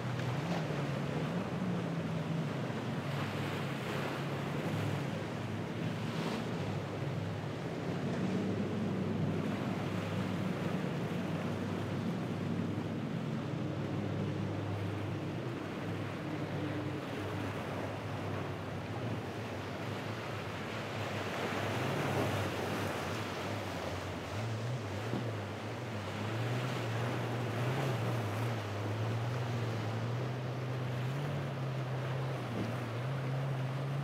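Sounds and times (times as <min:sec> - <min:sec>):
boat engines droning: 0:00.0 - 0:34.0
surf rushing: 0:00.0 - 0:34.0
wind: 0:00.0 - 0:34.0.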